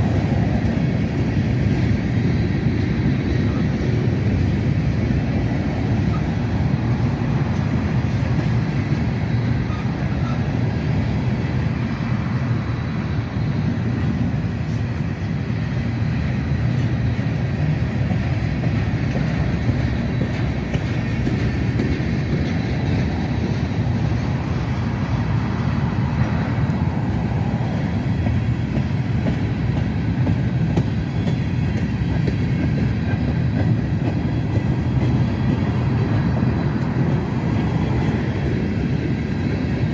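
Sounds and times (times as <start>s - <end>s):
freight train cars rumbling: 0.0s - 39.9s.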